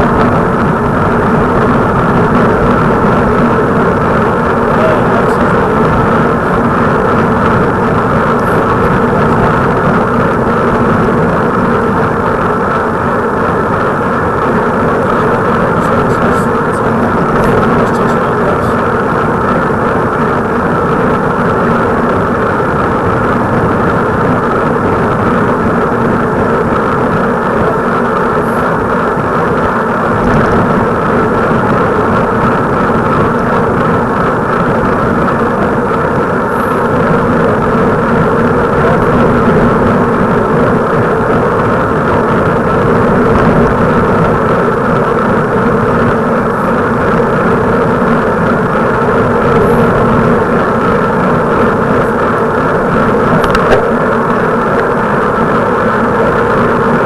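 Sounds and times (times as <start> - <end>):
constant low hum: 0.0 - 57.0
road and wind noise: 0.0 - 57.0.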